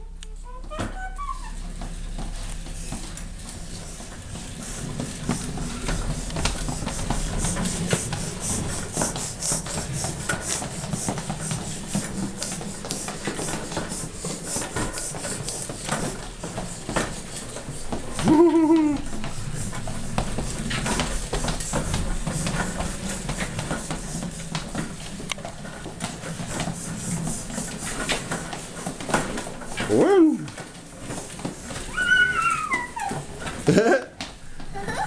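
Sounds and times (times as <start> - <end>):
toy wheels rumbling on floor: 0.0 - 35.0.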